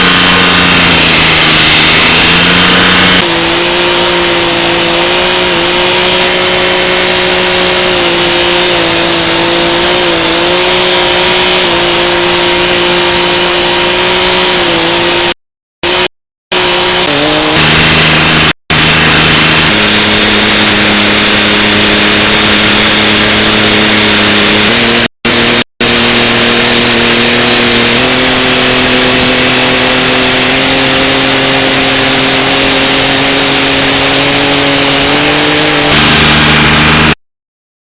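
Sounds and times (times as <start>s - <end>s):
tractor engine running fast: 0.0s - 37.2s.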